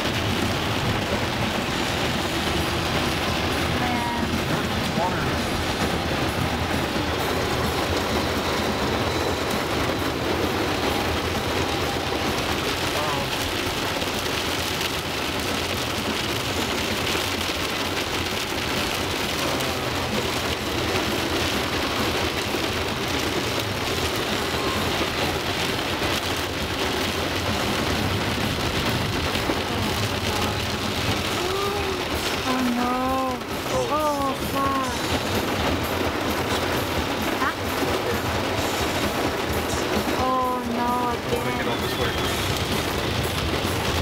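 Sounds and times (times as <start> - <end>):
heavy rain on car roof: 0.0 - 44.0
tyres running through water: 0.0 - 44.0.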